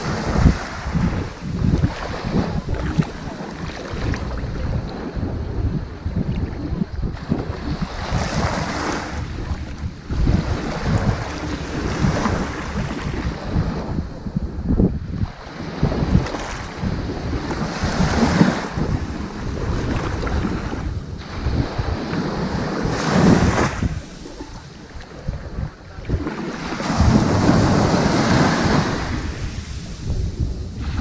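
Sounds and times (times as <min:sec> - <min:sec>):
ocean waves washing onto beach: 0:00.0 - 0:31.0.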